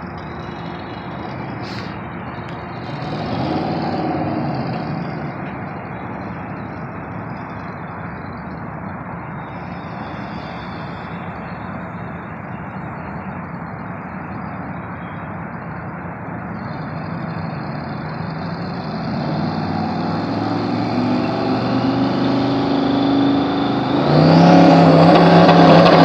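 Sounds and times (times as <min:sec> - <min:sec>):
car engine revving and rumbling: 0:00.0 - 0:26.0.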